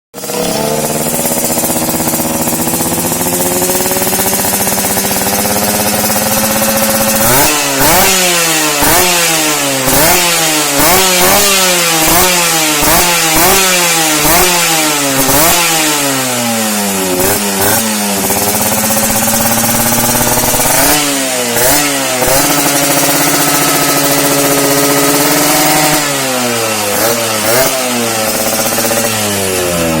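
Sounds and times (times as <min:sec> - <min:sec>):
motorcycle engine revving: 0:00.1 - 0:30.0.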